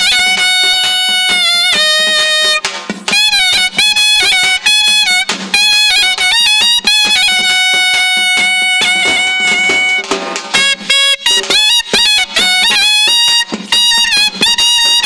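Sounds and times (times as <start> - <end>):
folk music melody instrument: 0.0 - 15.0.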